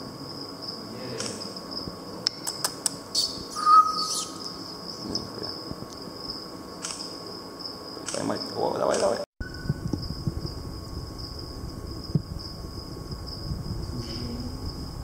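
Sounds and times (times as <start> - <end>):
high insect-like trill: 0.0 - 15.0.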